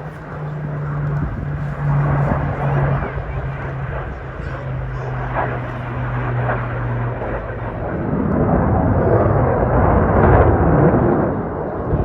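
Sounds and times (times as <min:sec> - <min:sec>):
aircraft engine drone: 0:00.0 - 0:12.0
aircraft engine rushing overhead: 0:00.0 - 0:12.0.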